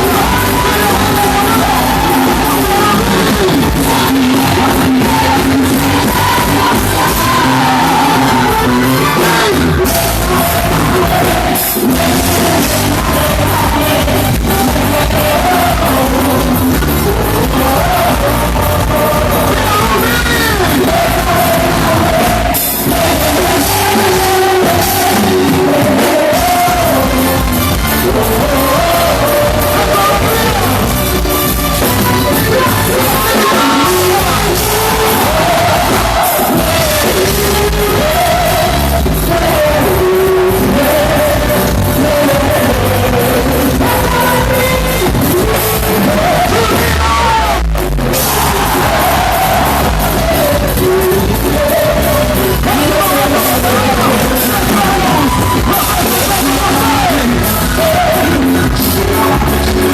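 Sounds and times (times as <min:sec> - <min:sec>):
loud music with singing: 0:00.0 - 0:59.9.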